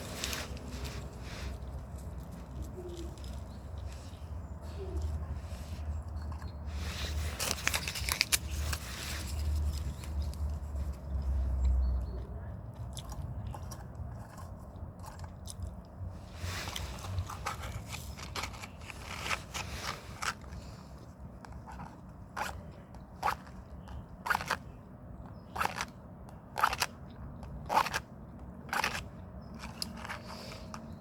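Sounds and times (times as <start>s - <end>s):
dry wood crackling: 0.0s - 24.6s, 28.7s - 31.0s.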